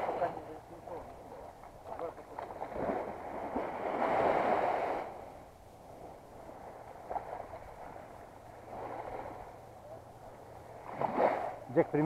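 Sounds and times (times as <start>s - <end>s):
sea water splashing: 0.0s - 12.0s
small waves lapping: 0.0s - 12.0s.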